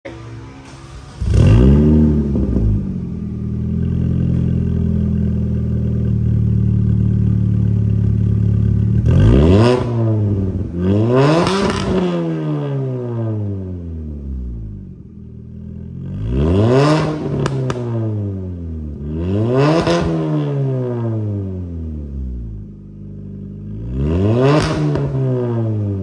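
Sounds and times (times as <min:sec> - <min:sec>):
car engine idling and revving: 0:00.1 - 0:26.0.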